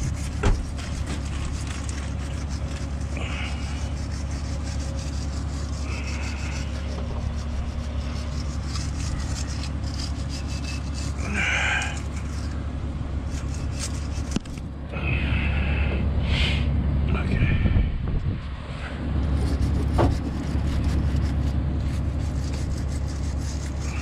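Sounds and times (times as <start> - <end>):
wire brush scrubbing metal: 0.0 - 14.7, 19.0 - 24.0
steady low hum: 0.0 - 24.0.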